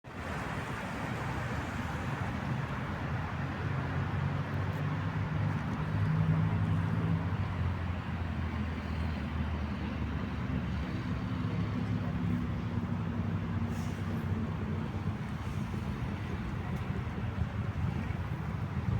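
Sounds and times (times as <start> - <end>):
engine running with low hum: 1.6 - 18.9.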